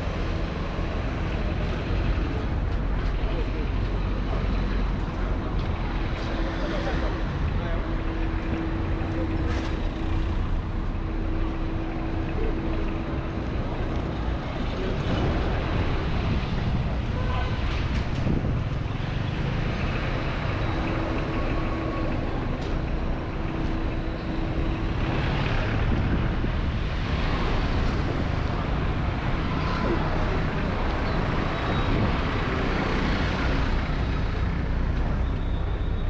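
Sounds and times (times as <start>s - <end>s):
cars and scooters passing: 0.0s - 36.0s.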